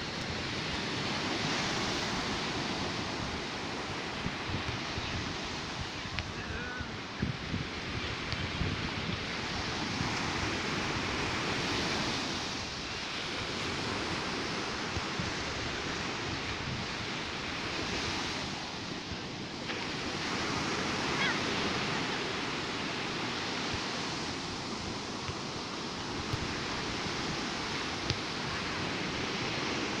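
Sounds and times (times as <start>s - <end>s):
sea waves washing ashore: 0.0s - 30.0s
wind rumbling on microphone: 0.0s - 30.0s.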